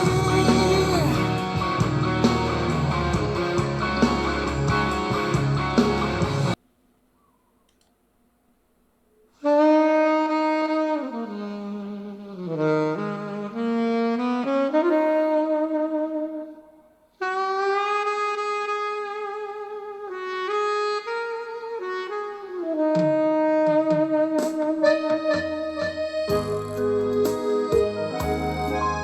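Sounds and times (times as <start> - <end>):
solo saxophone melody: 0.0 - 6.6, 9.4 - 29.0.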